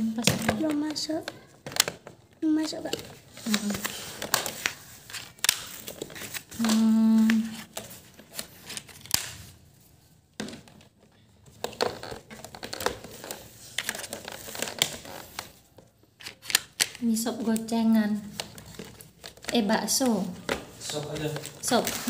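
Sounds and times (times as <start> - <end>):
plastic parts clicking and rattling: 0.1 - 9.4, 10.4 - 22.0.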